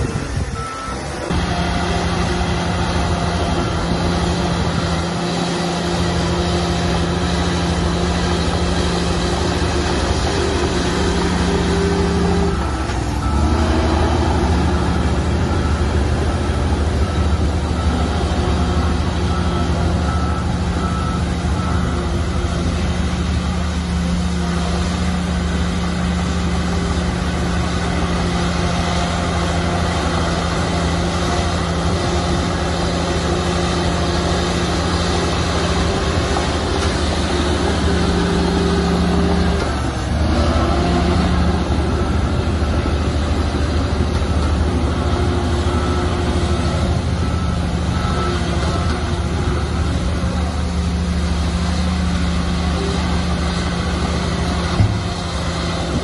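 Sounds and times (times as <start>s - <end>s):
diesel machinery engine running: 0.0s - 56.0s
reversing alarm beeping: 0.2s - 55.8s.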